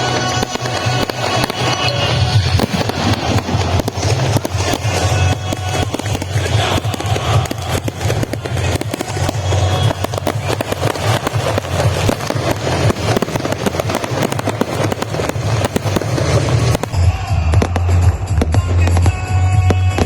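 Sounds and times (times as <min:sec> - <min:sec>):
fireworks crackling and popping: 0:00.0 - 0:20.0
music with low bass: 0:00.0 - 0:20.0.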